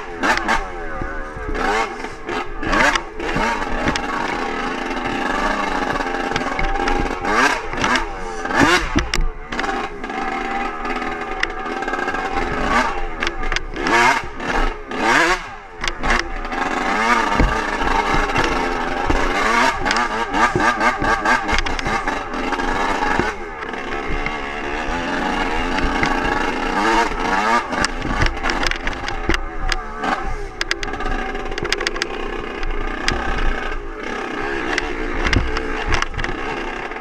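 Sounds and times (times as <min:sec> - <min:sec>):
dirt bike engine revving: 0:00.0 - 0:37.0
rattling: 0:00.0 - 0:37.0.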